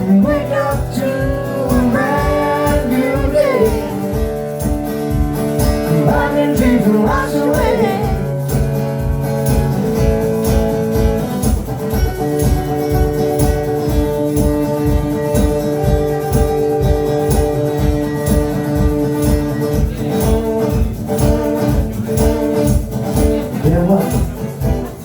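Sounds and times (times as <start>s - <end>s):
guitar chords: 0.0s - 25.0s
live band playing: 0.0s - 25.0s.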